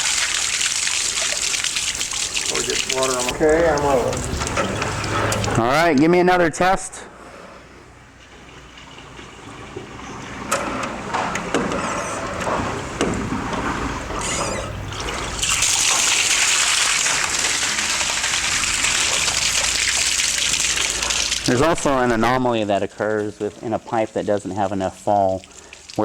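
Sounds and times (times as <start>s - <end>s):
water gurgling and splashing: 0.0s - 5.9s, 8.4s - 26.0s
toilet flushing: 0.0s - 6.8s, 7.6s - 26.0s.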